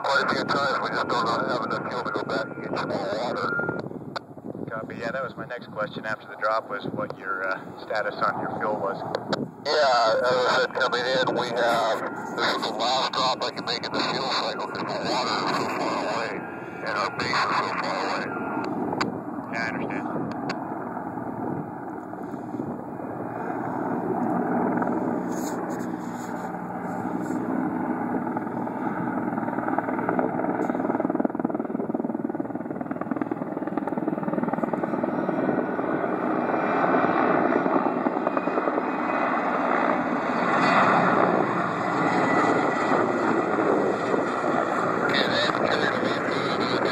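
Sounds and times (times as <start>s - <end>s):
helicopter flying overhead: 0.0s - 46.9s.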